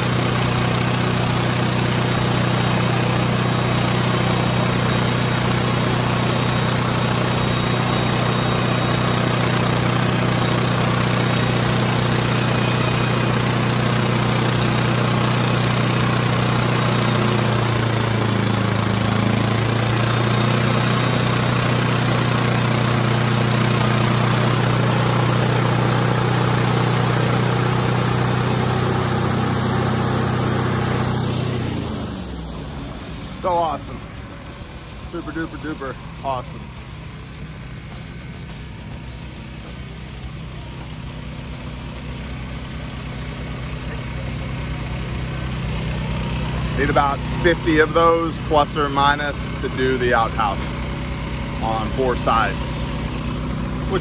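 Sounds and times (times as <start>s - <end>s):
band sawmill cutting log: 0.0s - 54.0s.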